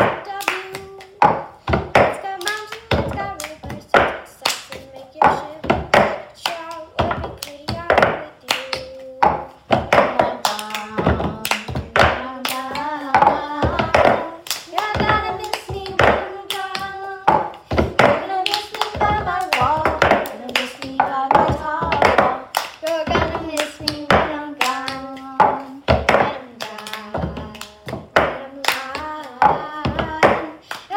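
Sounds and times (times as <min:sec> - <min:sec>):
rhythmic hand claps and slaps: 0:00.0 - 0:30.9.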